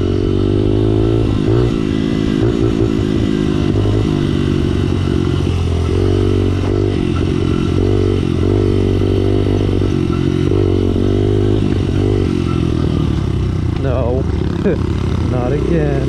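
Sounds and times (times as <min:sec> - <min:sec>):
small motorbike engine revving: 0:00.0 - 0:16.0
wind and riding noise: 0:00.0 - 0:16.0.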